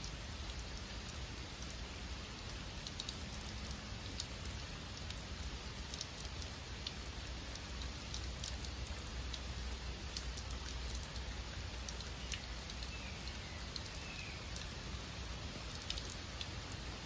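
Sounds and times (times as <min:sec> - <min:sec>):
rain on rock and foliage: 0:00.0 - 0:17.0
raindrop ticks: 0:00.0 - 0:17.0.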